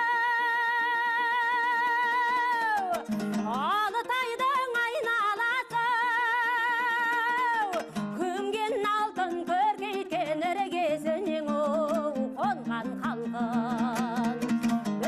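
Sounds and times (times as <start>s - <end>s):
high voice singing with vibrato: 0.0s - 15.0s
plucked string accompaniment: 0.0s - 15.0s.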